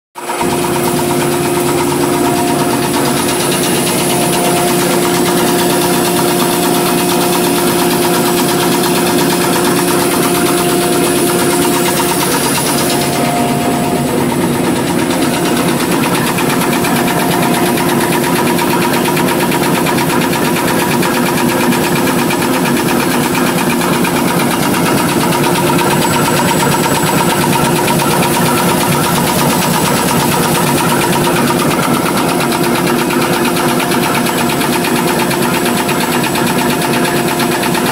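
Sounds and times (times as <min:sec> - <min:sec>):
fast clatter of rollers: 0:00.2 - 0:37.9
machine mechanical hum: 0:00.2 - 0:37.9.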